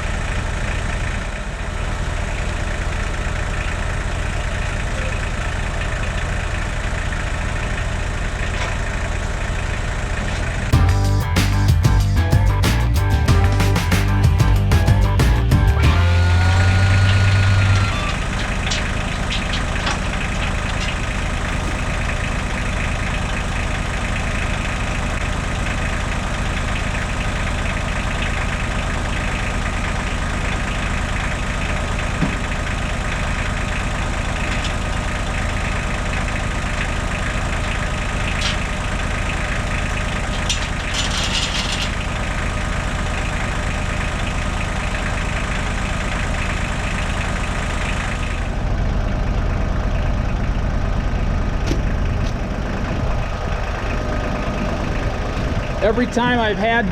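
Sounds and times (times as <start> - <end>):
engine idling: 0.0 - 56.9.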